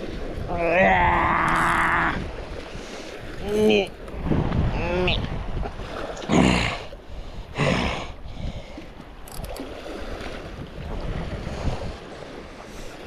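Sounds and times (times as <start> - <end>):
waves washing on beach: 0.0 - 13.0
wind on microphone: 0.0 - 13.0.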